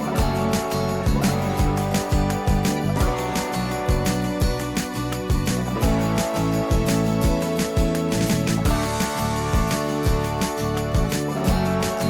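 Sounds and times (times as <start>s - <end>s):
steady beat: 0.0s - 12.0s.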